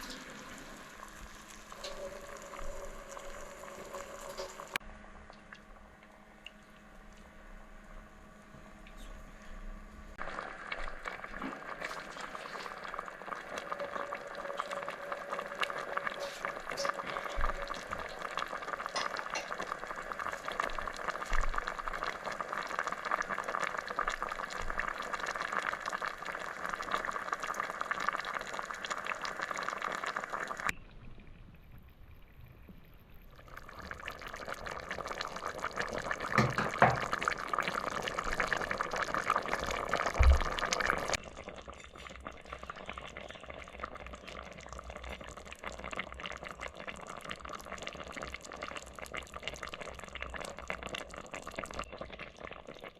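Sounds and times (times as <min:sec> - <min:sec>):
pot bubbling and crackling: 0:00.0 - 0:52.9.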